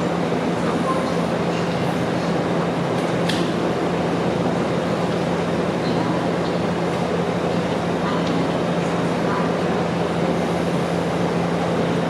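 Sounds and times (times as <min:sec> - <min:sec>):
train air-conditioning hum and whoosh: 0:00.0 - 0:12.0.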